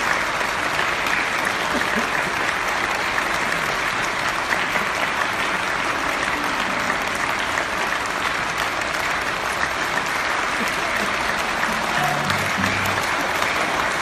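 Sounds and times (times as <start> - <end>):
large audience clapping: 0.0 - 14.0.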